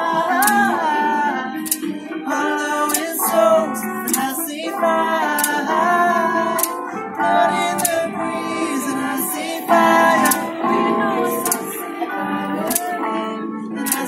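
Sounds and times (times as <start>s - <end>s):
electric guitar chords: 0.0s - 14.0s
woman singing: 0.0s - 14.0s.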